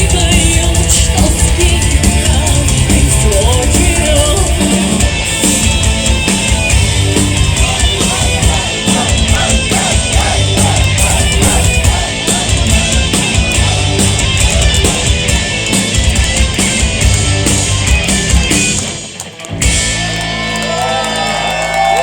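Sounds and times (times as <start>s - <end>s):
metal band playing live: 0.0s - 21.6s.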